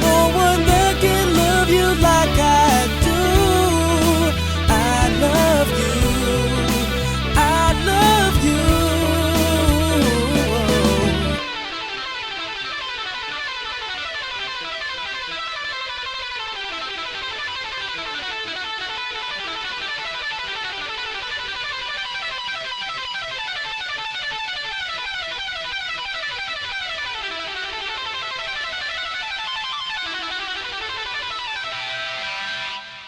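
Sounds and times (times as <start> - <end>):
plucked guitar notes: 0.0 - 33.0.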